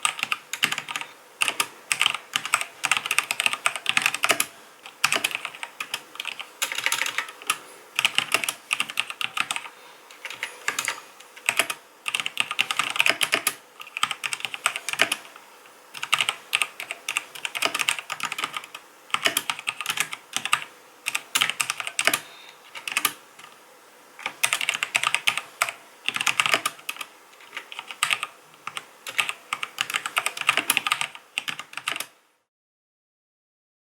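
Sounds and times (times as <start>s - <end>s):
mechanical keyboard typing: 0.0s - 15.3s, 16.0s - 22.2s, 22.8s - 23.2s, 24.2s - 32.1s.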